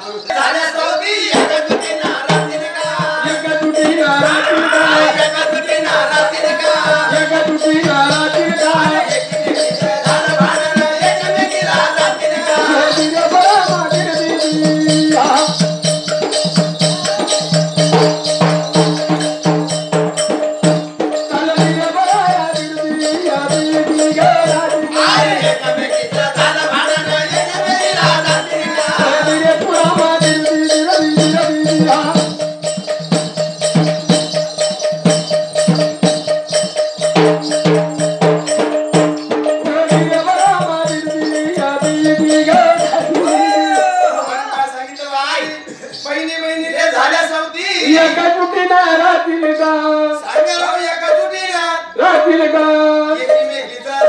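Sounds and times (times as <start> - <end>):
rattling percussion: 0.0 - 54.0
voices singing: 0.0 - 54.0
drum: 0.3 - 44.2.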